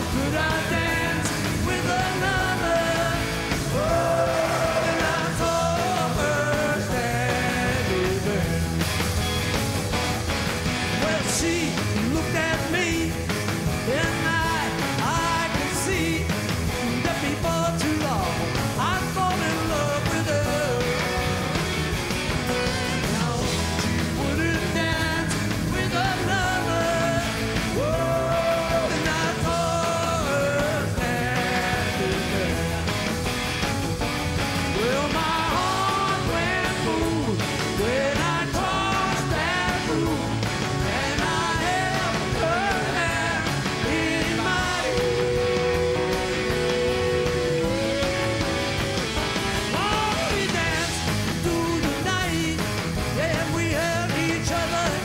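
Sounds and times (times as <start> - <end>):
lead vocals singing: 0.0 - 9.0, 10.5 - 33.6, 34.6 - 55.0
live rock band playing: 0.0 - 55.0.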